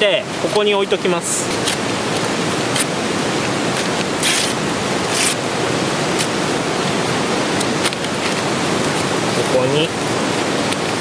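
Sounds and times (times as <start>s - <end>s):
steady rushing background noise: 0.0s - 11.0s.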